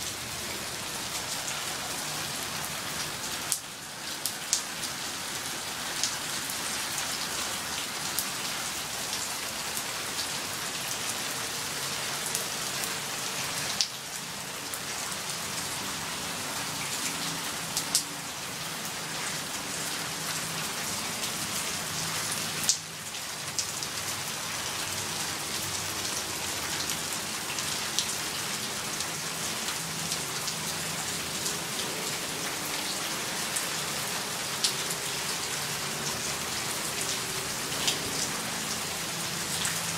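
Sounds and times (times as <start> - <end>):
rain falling and hissing: 0.0 - 39.9.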